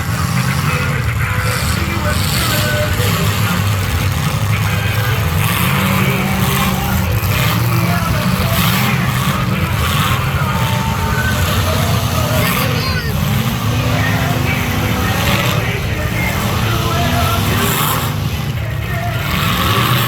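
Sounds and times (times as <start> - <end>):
unmuffled car engines droning: 0.0 - 20.0.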